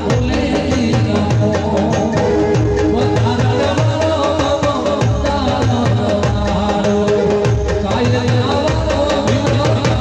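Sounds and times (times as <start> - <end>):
hand drums fast beat: 0.0 - 10.0
held folk melody line: 0.0 - 10.0.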